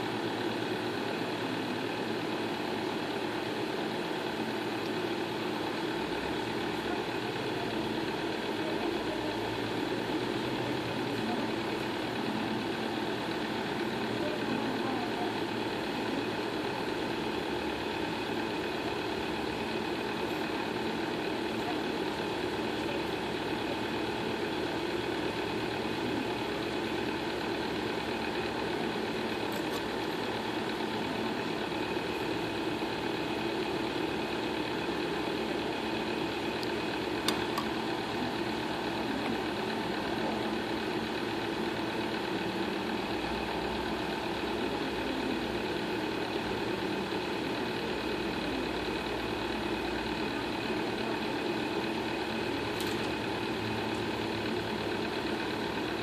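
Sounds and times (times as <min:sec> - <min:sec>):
machine motor humming: 0:00.0 - 0:56.0.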